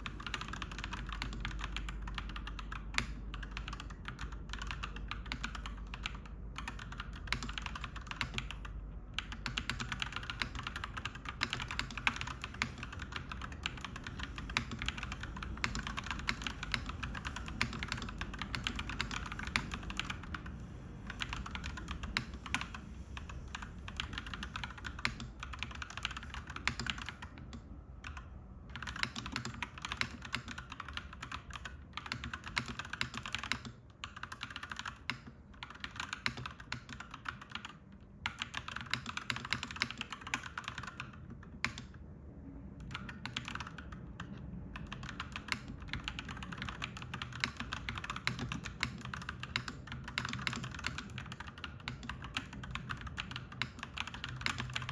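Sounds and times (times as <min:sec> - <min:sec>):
mechanical keyboard typing: 0:00.0 - 0:42.1, 0:42.8 - 0:54.9.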